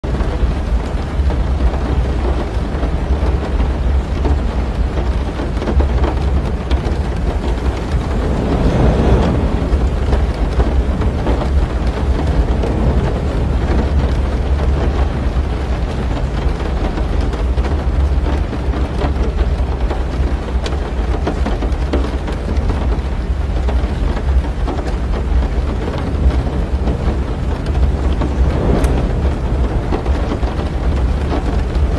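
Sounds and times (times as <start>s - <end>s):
deep steady rumble: 0.0s - 31.9s
heavy rain on car roof: 0.0s - 31.9s
thunder rumbling: 0.0s - 31.9s.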